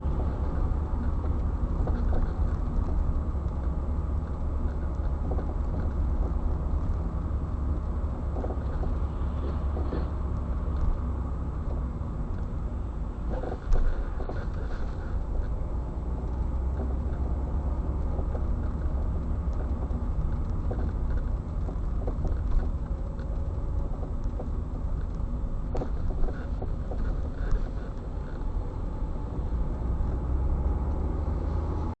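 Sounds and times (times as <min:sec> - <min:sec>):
road and engine rumble: 0:00.0 - 0:32.0.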